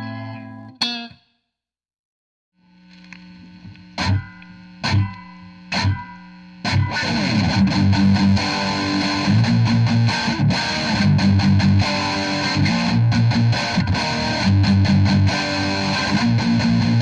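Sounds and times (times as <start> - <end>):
distorted electric guitar: 0.0 - 1.2, 2.7 - 17.0.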